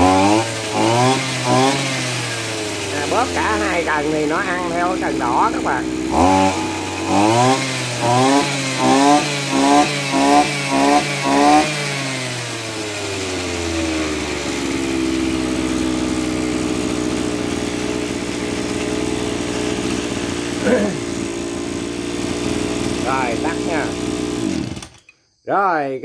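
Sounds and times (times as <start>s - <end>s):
brush cutter engine revving: 0.0s - 25.1s.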